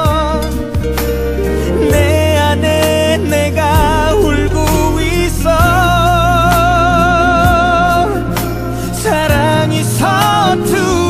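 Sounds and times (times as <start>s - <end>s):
pop ballad singing: 0.0s - 11.0s.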